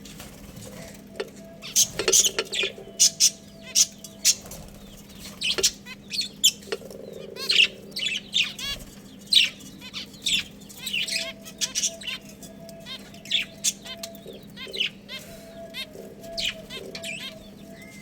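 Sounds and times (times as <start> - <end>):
faint steady hum: 0.0 - 18.0
budgerigars chirping: 1.1 - 18.0.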